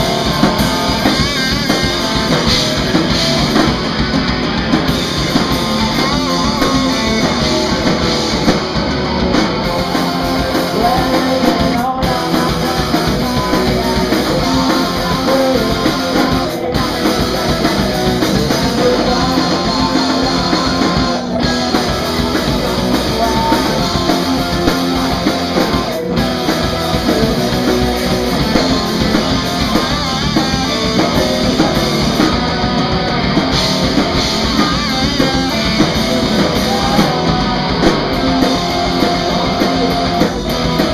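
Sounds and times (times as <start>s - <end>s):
drum kit: 0.0s - 40.9s
electric guitar through amplifier: 0.0s - 40.9s
person singing: 5.1s - 40.9s.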